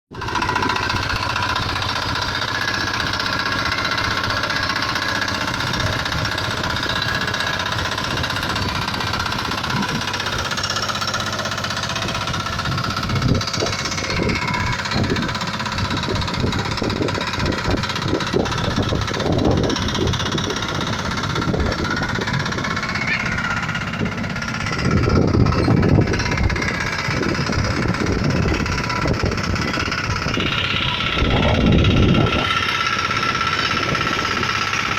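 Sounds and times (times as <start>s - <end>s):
diesel tractor engine knocking: 0.1s - 34.9s.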